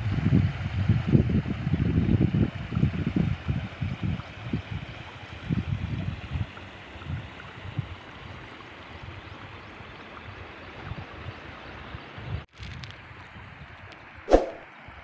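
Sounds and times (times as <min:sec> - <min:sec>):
rushing water: 0:00.0 - 0:12.4.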